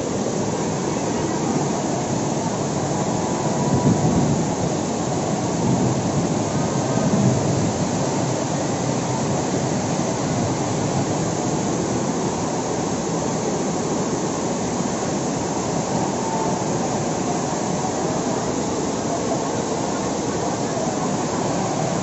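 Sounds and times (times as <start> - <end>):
floodwater rushing: 0.0 - 22.0
heavy rain: 0.0 - 22.0.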